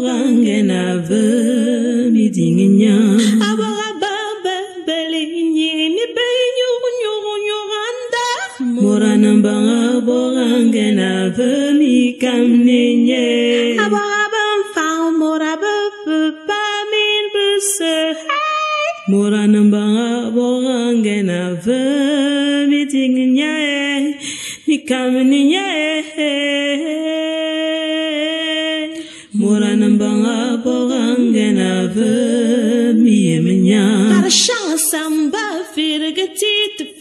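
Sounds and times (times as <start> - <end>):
chant-like singing: 0.0 - 37.0.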